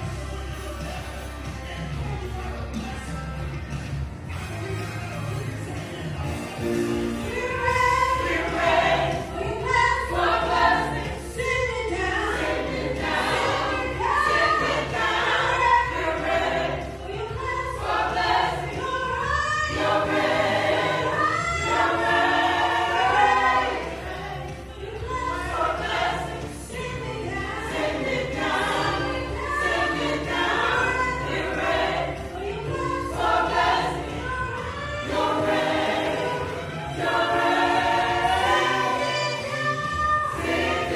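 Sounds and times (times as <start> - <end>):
choir singing gospel: 0.0 - 40.9.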